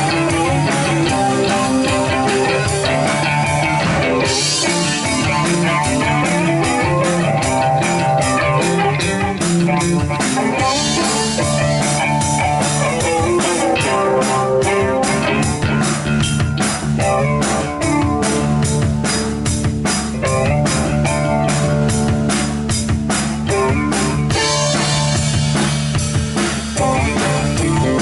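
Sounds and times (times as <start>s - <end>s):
rock band playing live: 0.0s - 28.0s.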